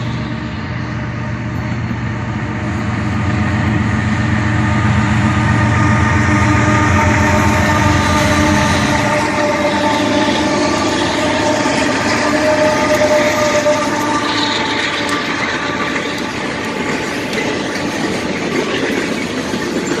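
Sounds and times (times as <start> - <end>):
locomotive air horn blast: 0.0 - 17.6
passing train rumble and rattle: 0.0 - 20.0.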